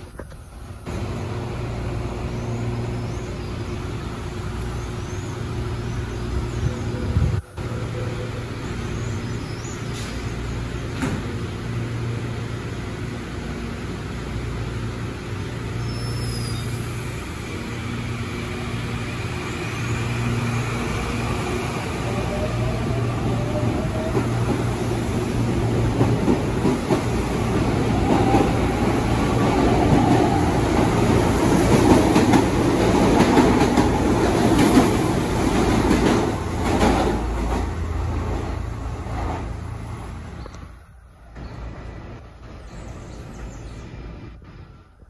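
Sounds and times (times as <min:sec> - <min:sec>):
electric train passing: 0:00.0 - 0:45.0.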